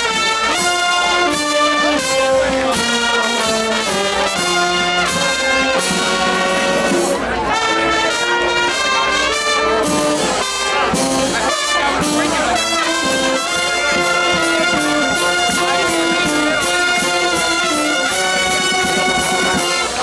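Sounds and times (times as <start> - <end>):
percussion beat: 0.0 - 8.0, 8.7 - 20.0
brass band playing: 0.0 - 20.0.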